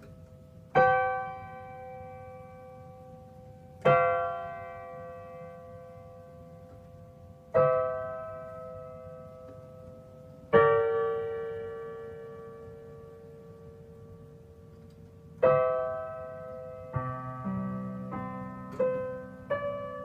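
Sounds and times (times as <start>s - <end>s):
slow solo piano chords: 0.0s - 20.0s.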